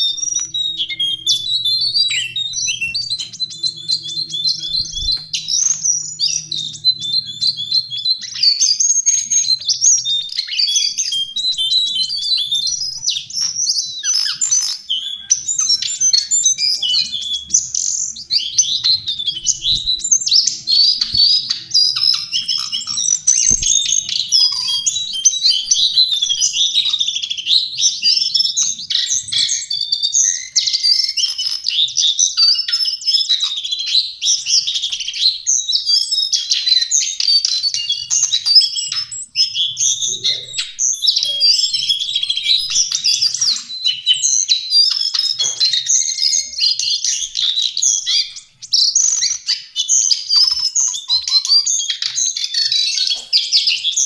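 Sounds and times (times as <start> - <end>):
bird singing high chirps and trills: 0.0 - 54.0.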